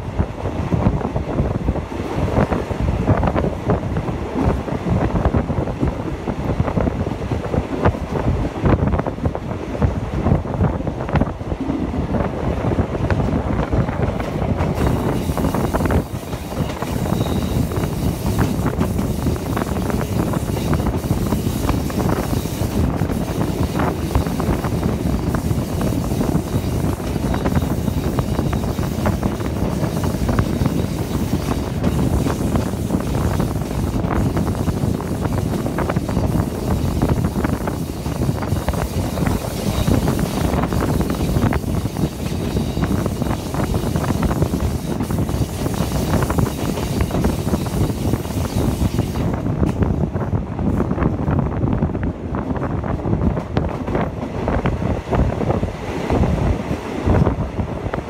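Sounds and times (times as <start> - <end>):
train carriage rumbling on track: 0.0 - 58.0
wind on microphone: 0.0 - 58.0.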